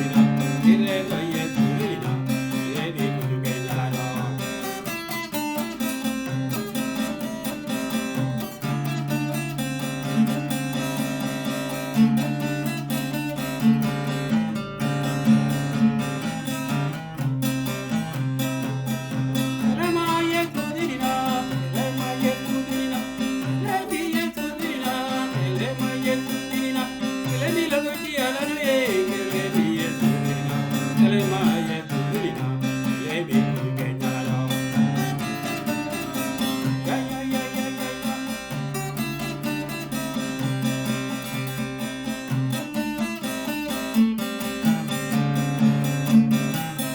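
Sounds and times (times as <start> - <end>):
strummed guitar: 0.0 - 46.9.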